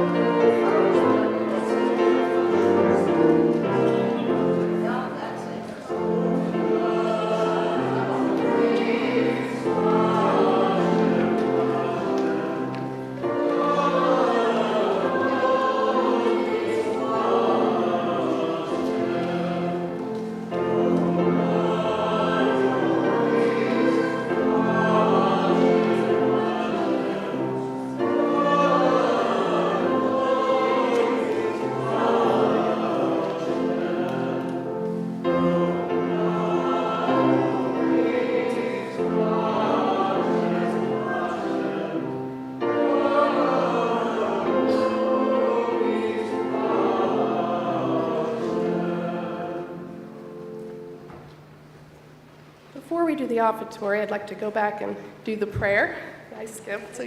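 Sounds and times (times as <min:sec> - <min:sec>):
choir singing a hymn: 0:00.0 - 0:51.4.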